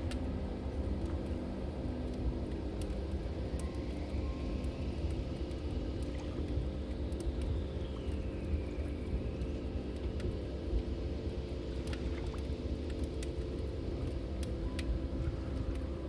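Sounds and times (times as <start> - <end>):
fire low rumble: 0.0 - 16.0
wood crackling and popping: 0.0 - 16.0.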